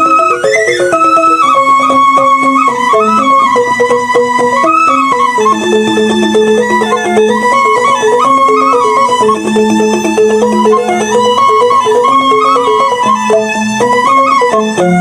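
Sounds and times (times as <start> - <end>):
bamboo xylophone music: 0.0 - 15.0.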